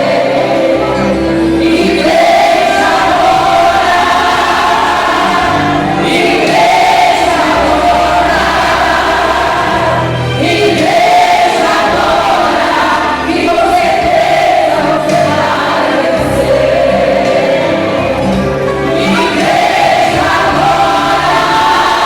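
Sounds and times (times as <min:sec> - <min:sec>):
instrumental backing with bass: 0:00.0 - 0:22.0
women's choir singing a hymn: 0:00.0 - 0:22.0.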